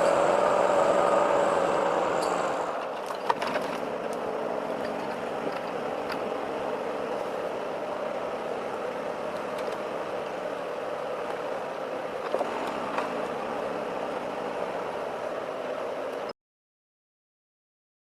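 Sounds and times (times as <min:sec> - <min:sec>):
heavy vehicle engine running: 0:00.0 - 0:16.3.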